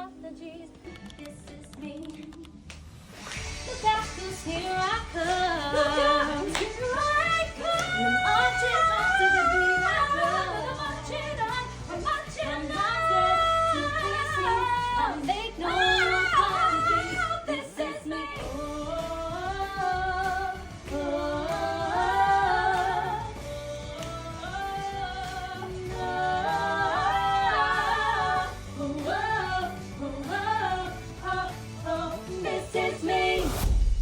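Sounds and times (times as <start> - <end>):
backing track music: 0.0 - 34.0
female vocal group singing: 3.6 - 33.7.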